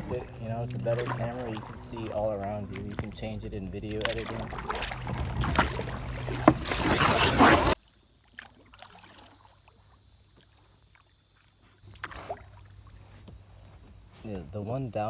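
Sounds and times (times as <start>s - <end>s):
paddle strokes in water: 0.0s - 14.8s.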